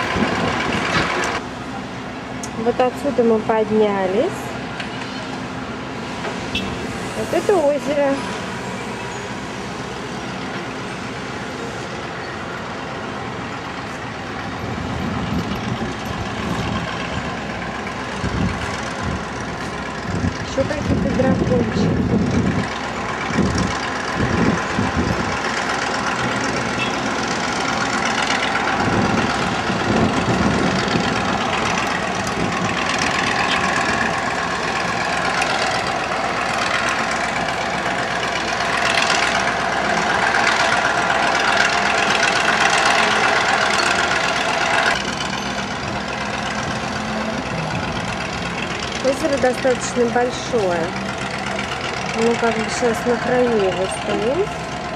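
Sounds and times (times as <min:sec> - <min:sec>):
road traffic engine hum: 0:00.0 - 0:54.9.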